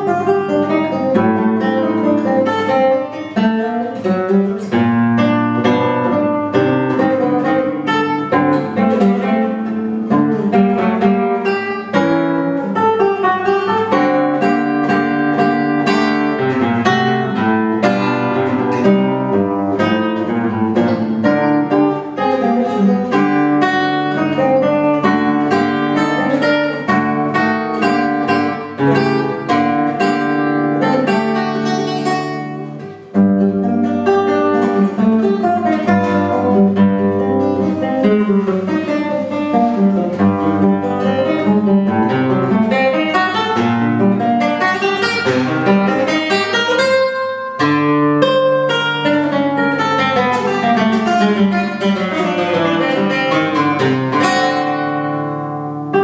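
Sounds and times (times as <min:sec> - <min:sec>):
classical guitar playing: 0:00.0 - 0:56.0.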